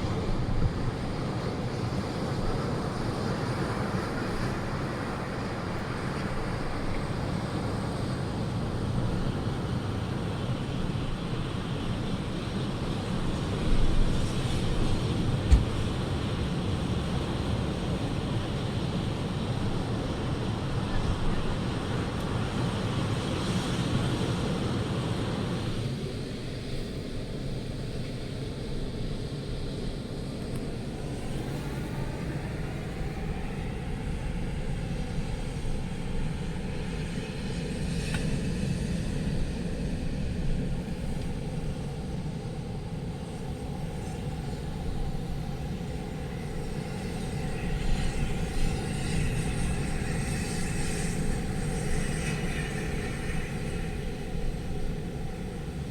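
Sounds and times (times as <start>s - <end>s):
faint engine hum: 0.0s - 55.9s.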